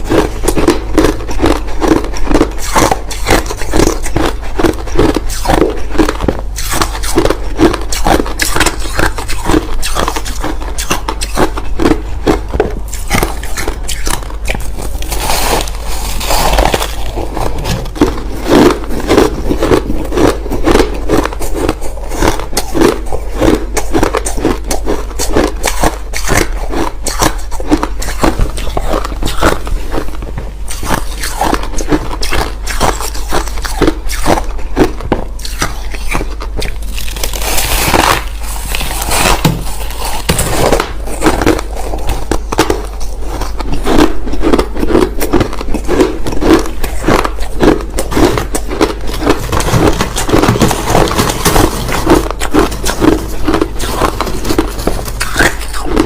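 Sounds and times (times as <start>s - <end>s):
crushed ice chewing crunches: 0.0s - 56.0s.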